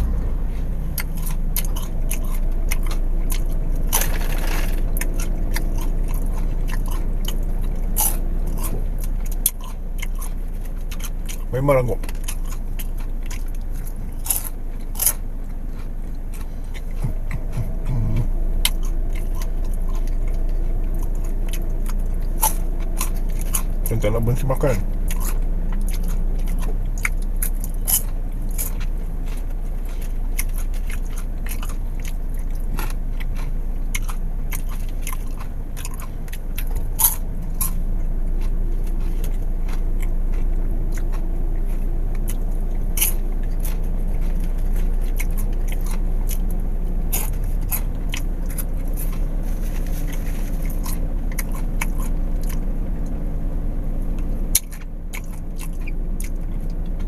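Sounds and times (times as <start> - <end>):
popcorn being chewed: 0.0 - 57.0
steady low hum: 0.0 - 57.0.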